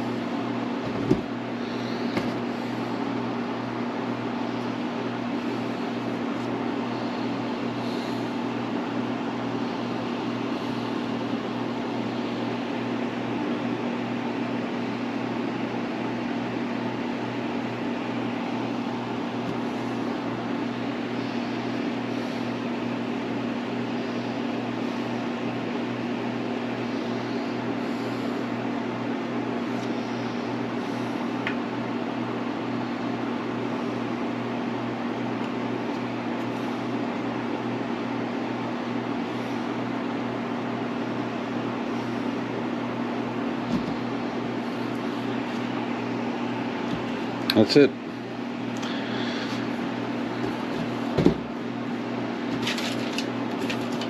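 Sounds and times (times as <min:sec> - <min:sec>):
electric fan humming: 0:00.0 - 0:54.0.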